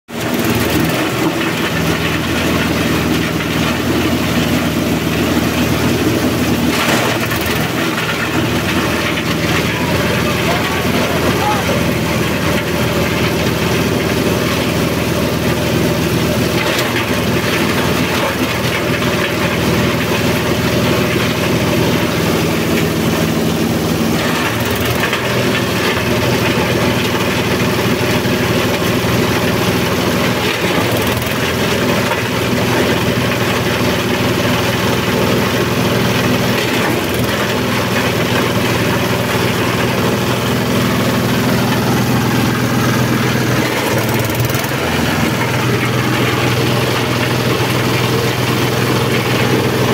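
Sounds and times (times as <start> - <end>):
diesel engine running: 0.1 - 49.9
forage chopper cutting stalks: 0.1 - 49.9.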